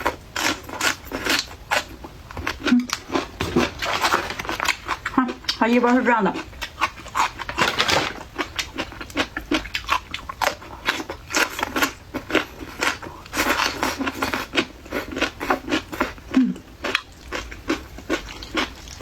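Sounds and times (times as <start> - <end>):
crunching and chewing pickled radish: 0.0 - 19.0.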